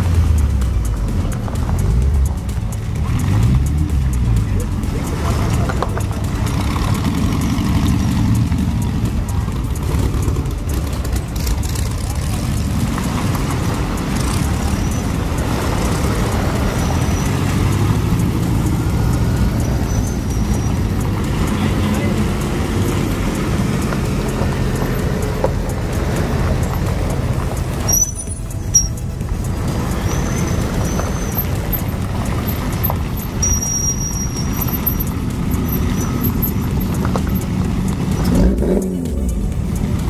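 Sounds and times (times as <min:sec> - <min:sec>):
motor trike engines passing: 0:00.0 - 0:40.0.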